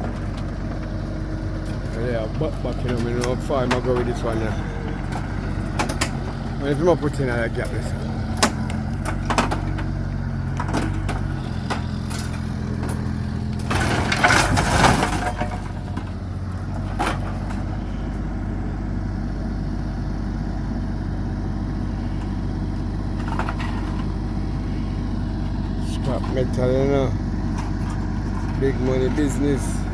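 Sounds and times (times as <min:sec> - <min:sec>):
heavy machinery engine running: 0:00.0 - 0:29.9.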